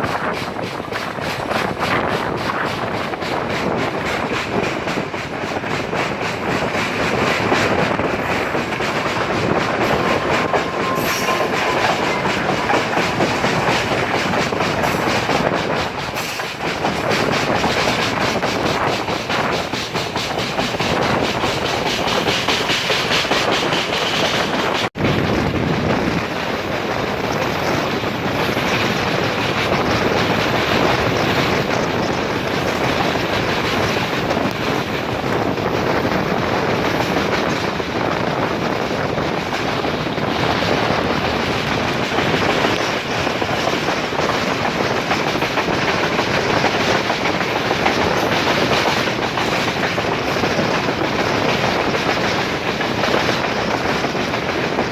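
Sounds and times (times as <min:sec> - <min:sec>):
clickety-clack of rail joints: 0:00.0 - 0:54.9
train wheels rumbling on rails: 0:00.0 - 0:54.9.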